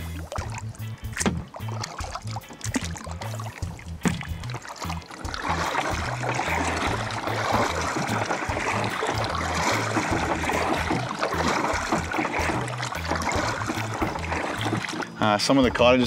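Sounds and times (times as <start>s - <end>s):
kayak paddle splashing water: 0.0s - 15.4s.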